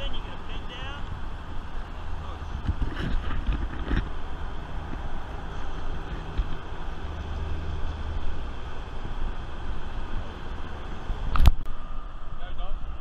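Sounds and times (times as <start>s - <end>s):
freeway traffic rumble: 0.0s - 13.0s.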